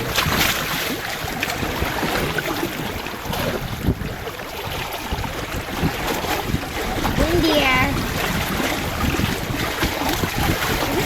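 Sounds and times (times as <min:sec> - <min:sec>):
water splashing around hull: 0:00.0 - 0:11.0
wind buffeting microphone: 0:00.0 - 0:11.0.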